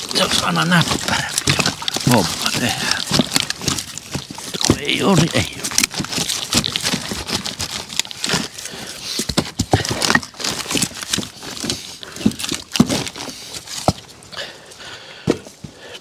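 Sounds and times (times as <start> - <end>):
firewood logs knocking: 0.0 - 14.5, 15.1 - 15.9.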